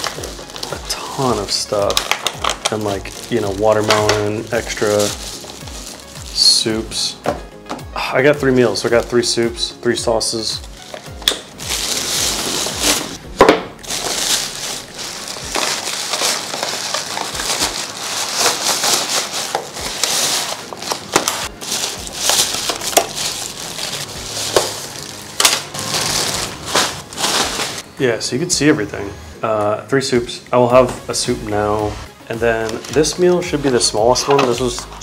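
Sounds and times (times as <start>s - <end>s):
plastic bag rustling: 0.0s - 7.1s, 8.5s - 13.2s, 13.8s - 27.8s, 32.5s - 35.0s.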